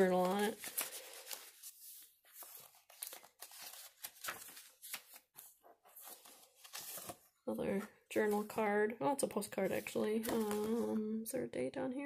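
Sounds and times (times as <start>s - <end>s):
paper rustling and crinkling: 0.0s - 8.7s, 9.3s - 11.0s.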